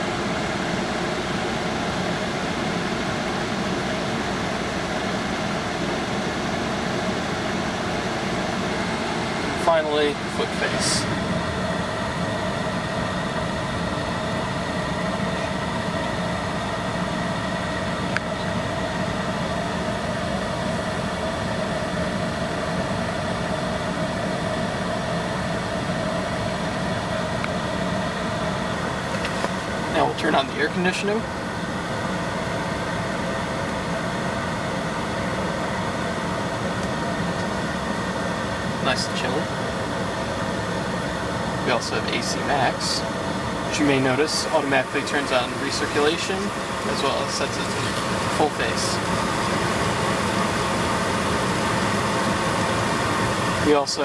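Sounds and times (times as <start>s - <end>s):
car blower fan rushing air: 0.0s - 54.0s.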